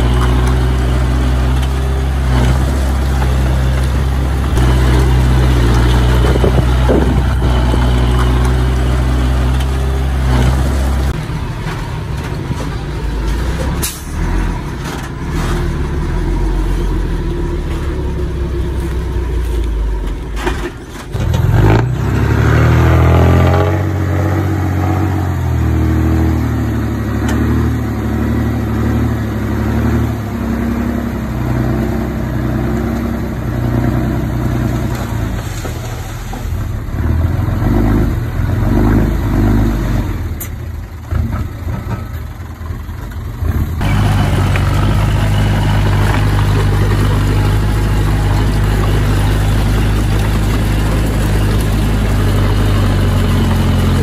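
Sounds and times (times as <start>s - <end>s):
bulldozer diesel engine revving: 0.0s - 54.0s.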